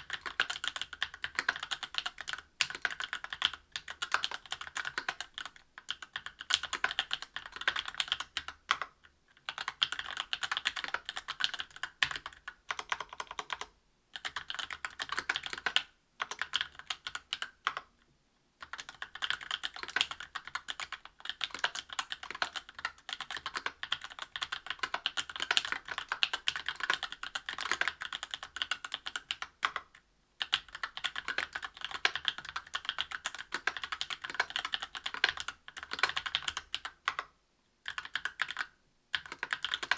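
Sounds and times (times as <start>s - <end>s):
mechanical keyboard typing: 0.0s - 17.9s, 18.6s - 39.9s.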